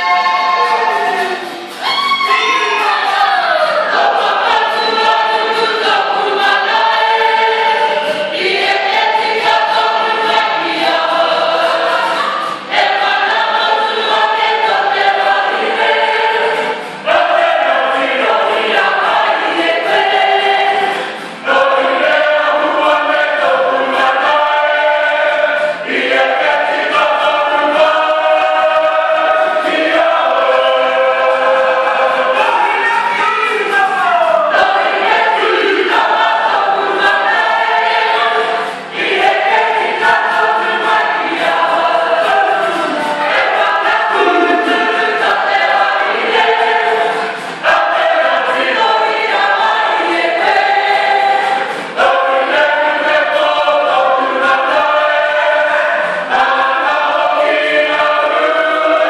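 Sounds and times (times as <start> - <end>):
choir singing in harmony: 0.0 - 59.0.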